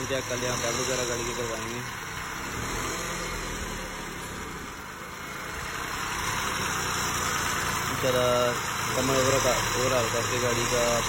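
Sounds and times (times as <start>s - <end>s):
car engine idling: 0.0s - 11.0s
internal engine noise: 0.0s - 11.0s.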